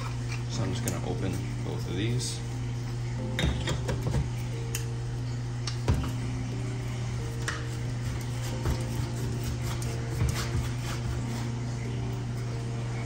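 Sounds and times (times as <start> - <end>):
soft background music: 0.0 - 13.0
steady low hum: 0.0 - 13.0.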